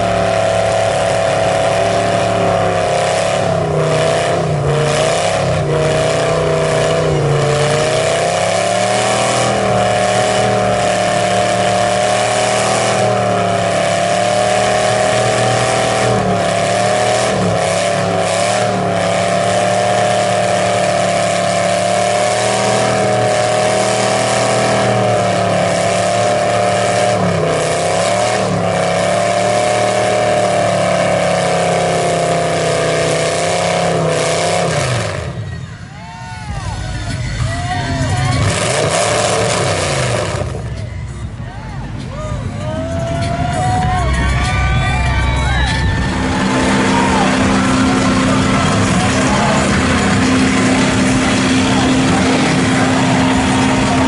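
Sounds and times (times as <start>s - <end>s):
truck engine at high revs: 0.0s - 54.0s.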